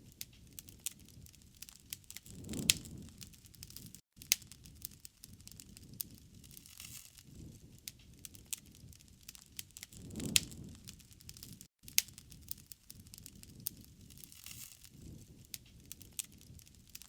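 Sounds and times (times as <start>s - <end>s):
wood fire crackling: 0.0s - 17.0s
sharp pops and snaps: 0.1s - 7.2s, 7.8s - 17.0s.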